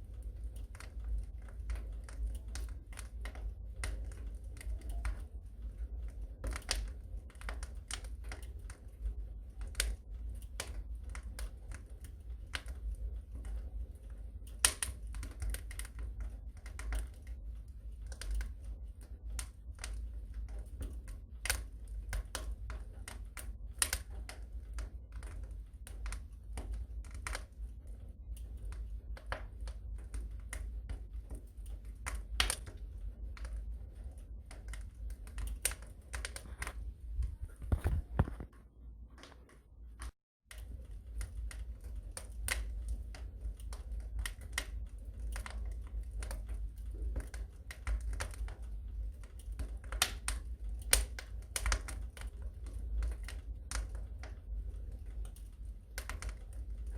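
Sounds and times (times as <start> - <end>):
low rumble of flame: 0.0 - 56.9
wood fire crackling and popping: 0.0 - 56.9.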